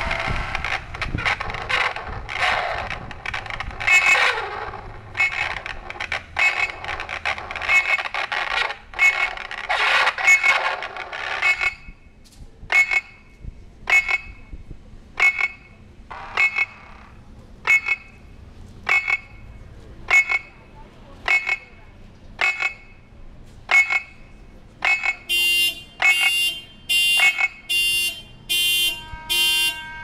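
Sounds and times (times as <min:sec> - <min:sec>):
car alarm chirps and warbles: 0:00.1 - 0:30.0.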